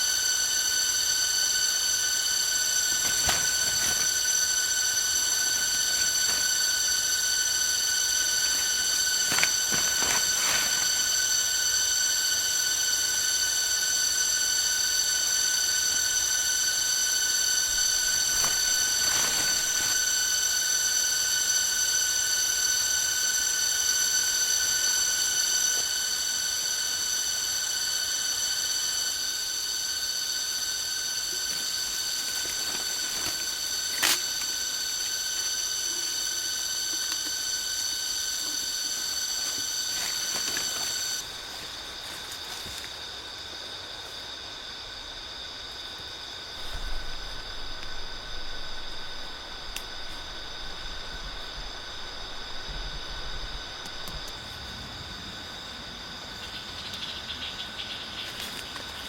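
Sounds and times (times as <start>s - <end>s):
shrill insect drone: 0.0s - 59.0s.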